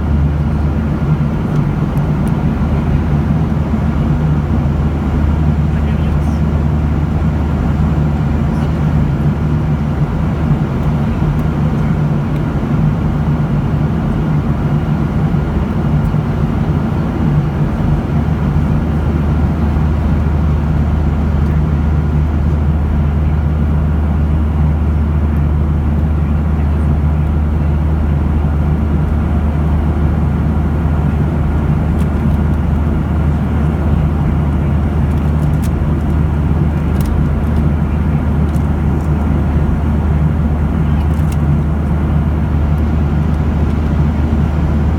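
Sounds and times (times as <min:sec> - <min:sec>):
jet engine low hum: 0:00.0 - 0:44.9.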